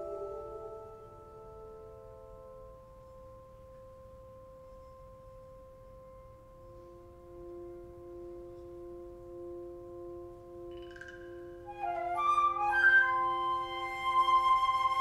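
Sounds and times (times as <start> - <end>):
sustained pure tones: 0.0 - 15.0.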